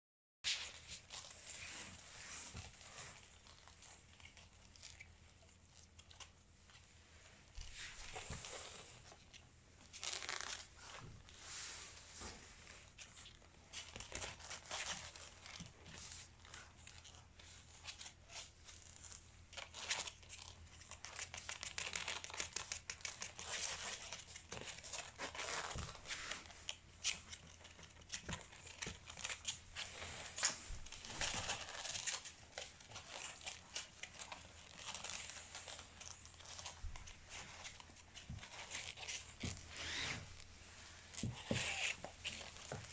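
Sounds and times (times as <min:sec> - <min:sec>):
puppy claws scratching on floor mat: 0:00.5 - 0:42.9.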